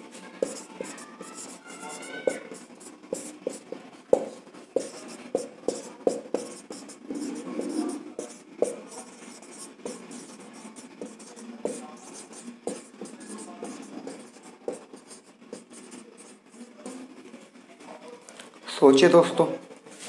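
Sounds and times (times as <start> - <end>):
pen scratching on paper: 0.0 - 17.0.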